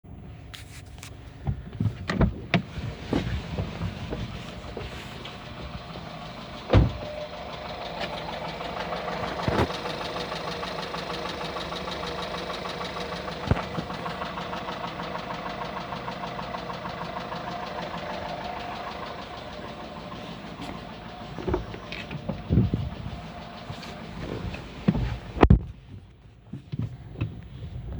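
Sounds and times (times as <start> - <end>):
car engine idling with rattle: 0.1 - 27.9
sharp engine knocks: 1.4 - 25.7.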